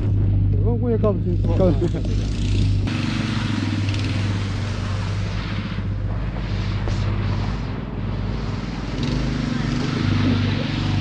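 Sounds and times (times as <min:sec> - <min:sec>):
heavy diesel engine droning: 0:00.0 - 0:11.0
noisy hiss: 0:01.8 - 0:11.0.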